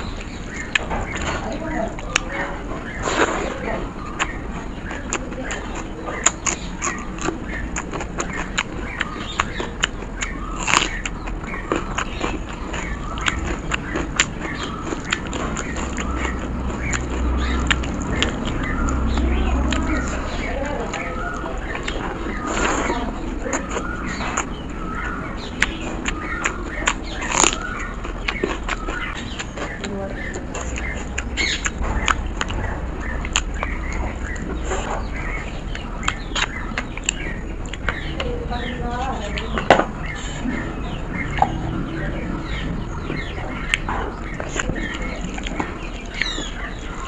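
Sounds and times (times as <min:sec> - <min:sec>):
chewing and lip sounds: 0:00.0 - 0:47.0
low steady hum: 0:00.0 - 0:47.0.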